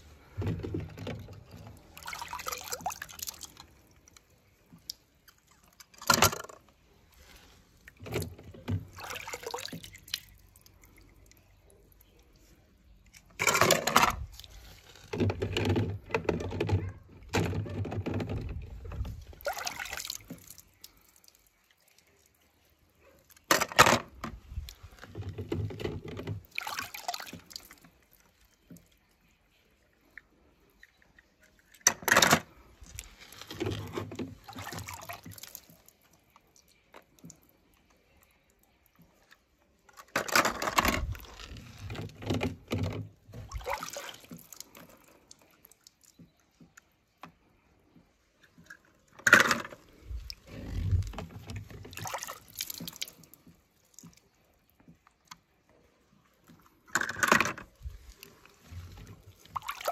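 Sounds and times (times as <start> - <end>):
water splashing in plastic tub: 0.0 - 59.9.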